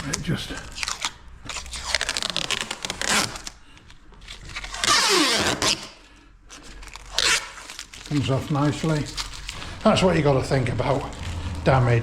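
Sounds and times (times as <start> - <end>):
plastic tape peeling: 0.0 - 11.7.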